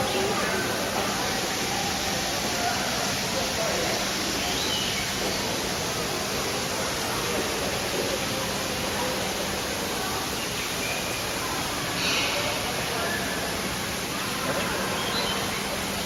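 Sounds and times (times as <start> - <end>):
faint voices: 0.0 - 16.0.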